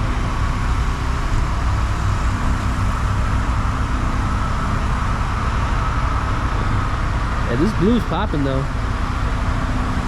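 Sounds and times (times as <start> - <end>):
idling vehicle engines: 0.0 - 10.0.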